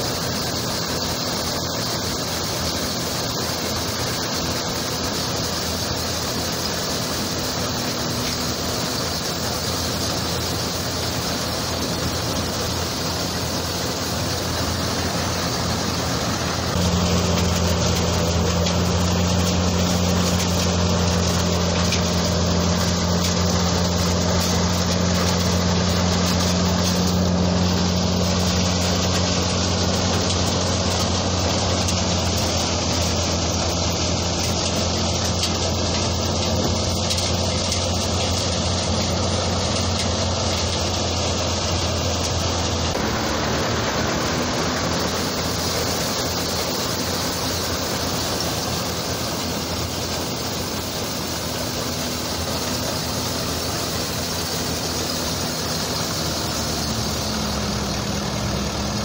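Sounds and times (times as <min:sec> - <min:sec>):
thresher machine whirring: 0:00.0 - 0:59.0
tractor engine droning: 0:00.0 - 0:59.0.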